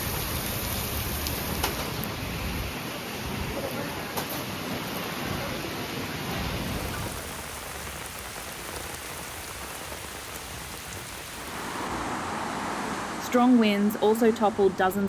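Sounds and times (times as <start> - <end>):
heavy rain on hard surfaces: 0.0 - 3.7, 4.3 - 13.1.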